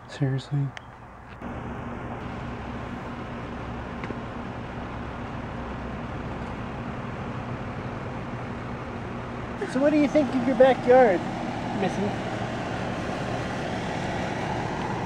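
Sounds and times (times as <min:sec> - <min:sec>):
low hum: 0:01.0 - 0:15.0.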